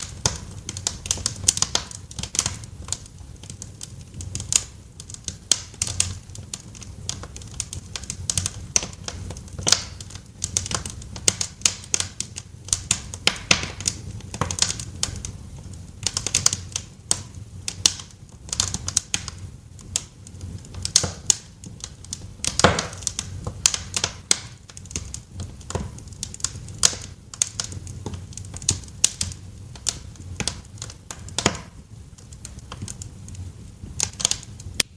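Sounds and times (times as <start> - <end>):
low rumble of flames: 0.0 - 34.9
wood fire crackling: 0.0 - 34.9.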